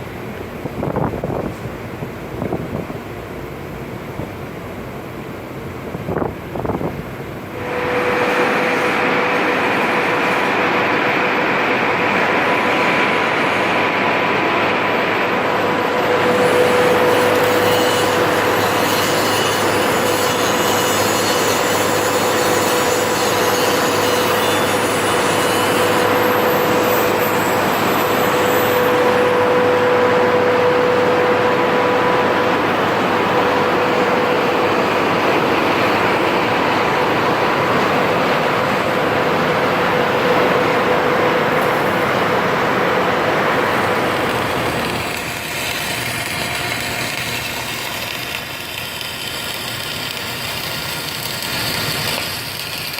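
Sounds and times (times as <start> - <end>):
constant machine whine: 0.0 - 52.9
industrial metalworking noise: 0.0 - 52.9.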